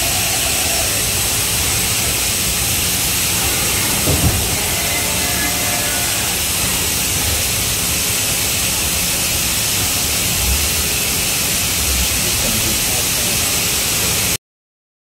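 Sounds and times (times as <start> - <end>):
loud steady machine hiss: 0.0 - 14.4
low machine rumble: 0.0 - 14.4.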